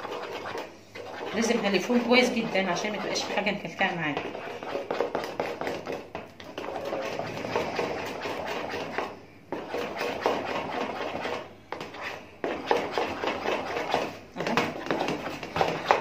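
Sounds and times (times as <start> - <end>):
paste stirred in plastic bowl: 0.0 - 16.0.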